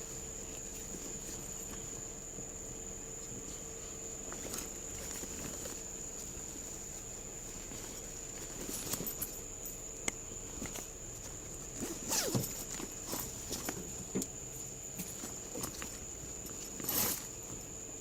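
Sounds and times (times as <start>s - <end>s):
rustling and handling noises: 0.0s - 17.9s.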